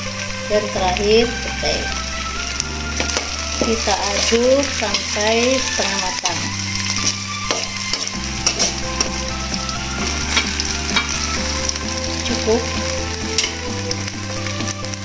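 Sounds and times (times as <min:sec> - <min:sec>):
food sizzling in hot oil: 0:00.0 - 0:15.0
utensil scraping a wok: 0:00.0 - 0:15.0.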